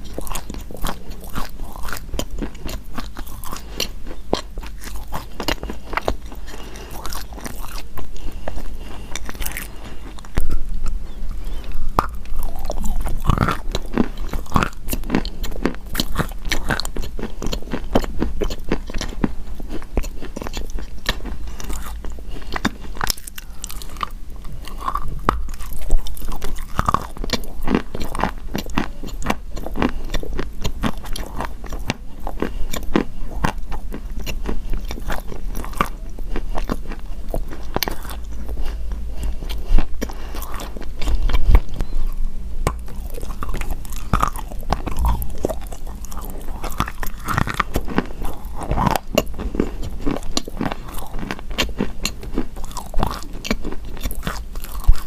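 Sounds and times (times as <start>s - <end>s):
chalk being chewed: 0.0s - 55.0s.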